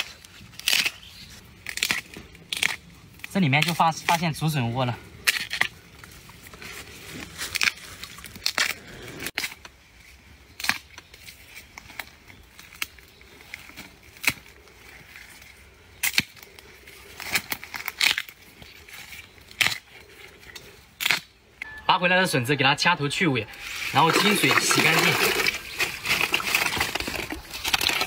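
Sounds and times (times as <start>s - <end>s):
bamboo shoots snapping: 0.0s - 4.2s, 5.2s - 6.2s, 7.3s - 9.8s, 10.5s - 21.4s, 24.1s - 28.0s.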